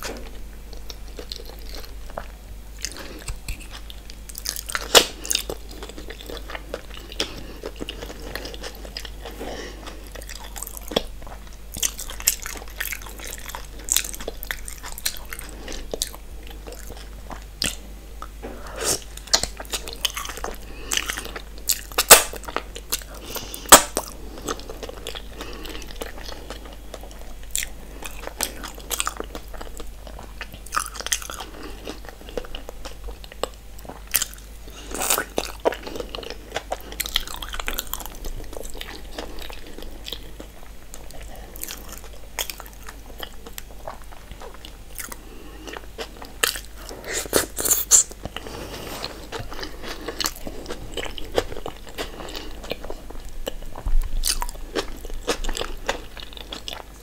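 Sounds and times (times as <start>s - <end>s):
wet chewing and mouth sounds: 0.0s - 57.0s.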